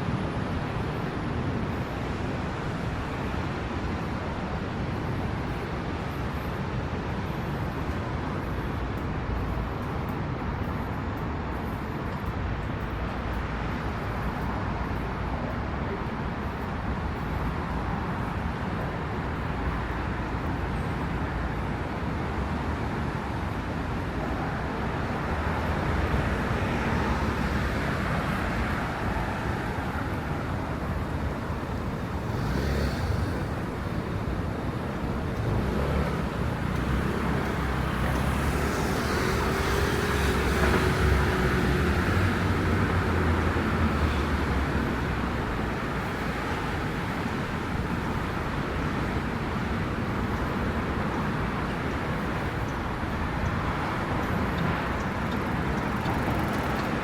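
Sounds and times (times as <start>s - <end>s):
vehicles passing on wet road: 0.0s - 57.0s.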